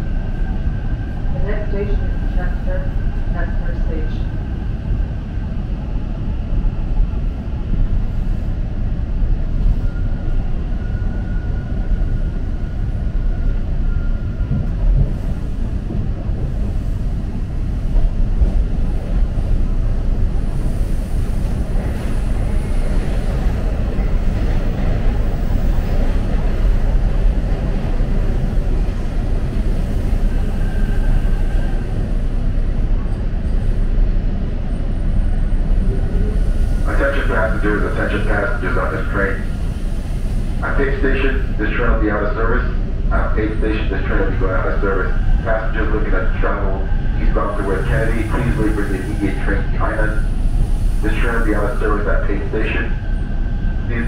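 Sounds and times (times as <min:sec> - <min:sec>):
subway train wheels rumbling: 0:00.0 - 0:54.0.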